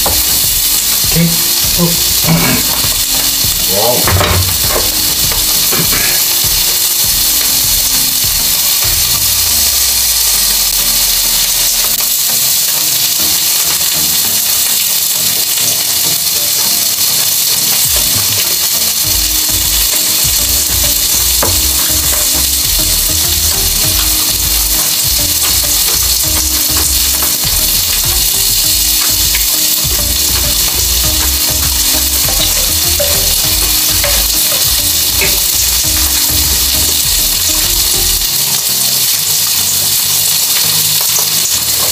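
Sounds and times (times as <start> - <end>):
meat sizzling on a grill plate: 0.0 - 41.9.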